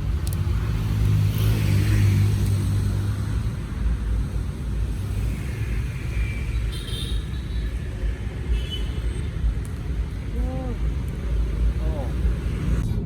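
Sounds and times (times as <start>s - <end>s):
vehicle rumbling on road: 0.0s - 13.0s.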